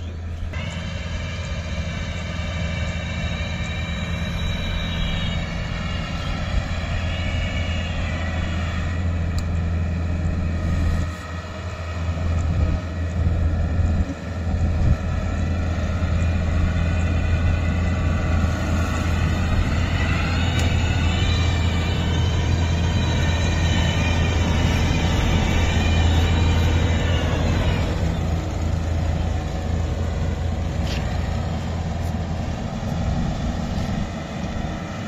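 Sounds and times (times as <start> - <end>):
diesel engine humming: 0.0 - 35.0
high mechanical whine: 0.0 - 35.0.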